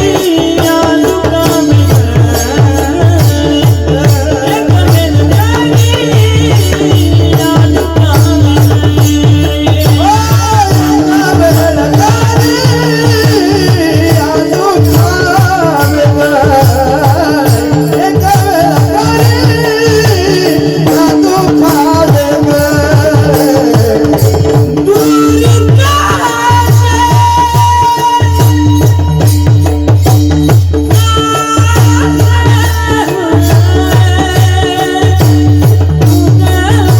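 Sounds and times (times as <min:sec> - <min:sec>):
fast hand-drum strokes: 0:00.0 - 0:36.9.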